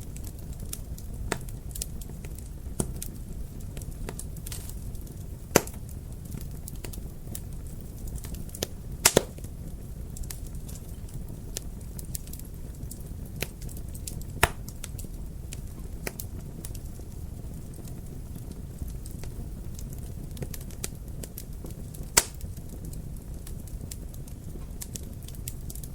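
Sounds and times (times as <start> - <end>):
flames rumbling: 0.0 - 25.9
wood fire crackles and pops: 0.0 - 25.9.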